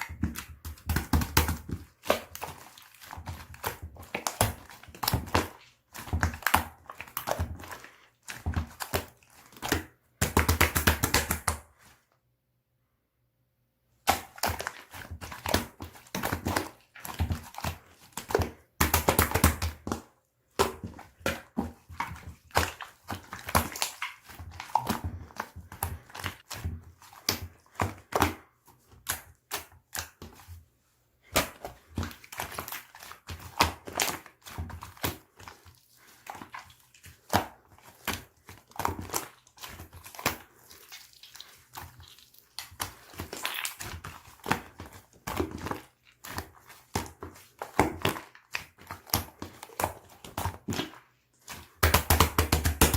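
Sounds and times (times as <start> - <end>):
hands squishing slime: 0.0 - 12.1, 14.0 - 52.9.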